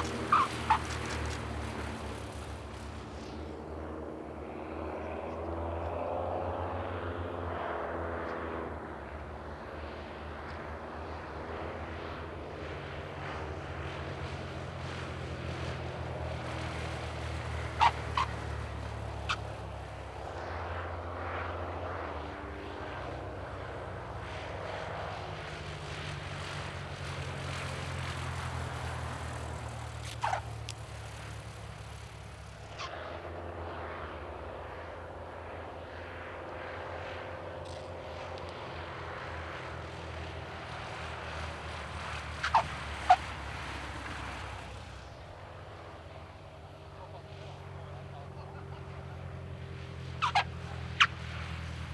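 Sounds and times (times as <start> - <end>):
propeller plane engines droning overhead: 0.0 - 51.9.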